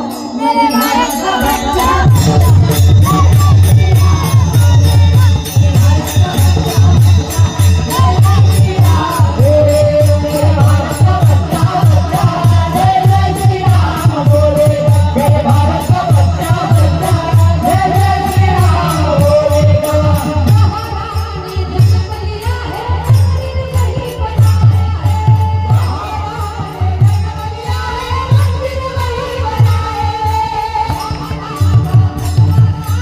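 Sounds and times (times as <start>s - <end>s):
steady drum beat: 0.0s - 33.0s
women singing devotional song: 0.0s - 33.0s.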